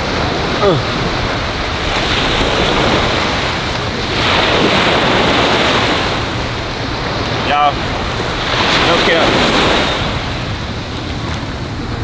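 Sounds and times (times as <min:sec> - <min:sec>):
surf breaking on sandy beach: 0:00.0 - 0:12.0
wind buffeting microphone: 0:00.0 - 0:12.0.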